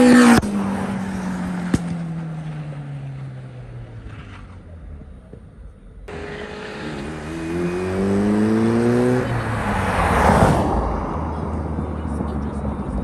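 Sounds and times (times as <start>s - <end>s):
engine accelerating: 0.0s - 13.0s
racing car engine: 0.0s - 13.0s.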